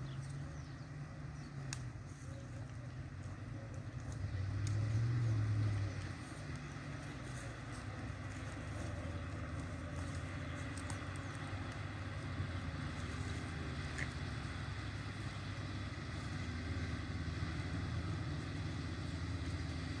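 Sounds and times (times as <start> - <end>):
distant vehicle engines droning: 0.0 - 20.0.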